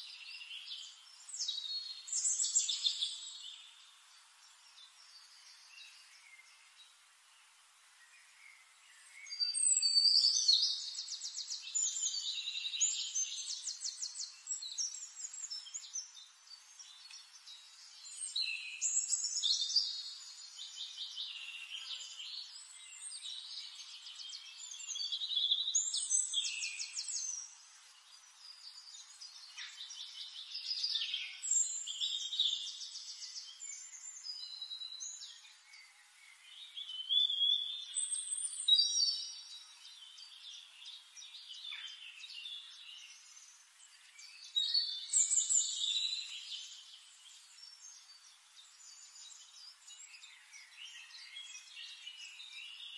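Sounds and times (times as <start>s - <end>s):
songbird trilling and chirping: 0.0s - 6.7s, 8.2s - 52.9s.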